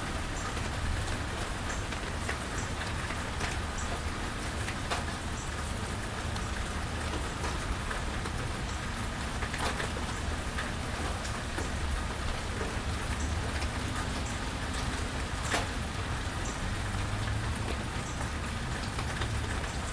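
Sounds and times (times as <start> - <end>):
rain falling: 0.0 - 19.9
close drips and splashes: 0.2 - 19.9.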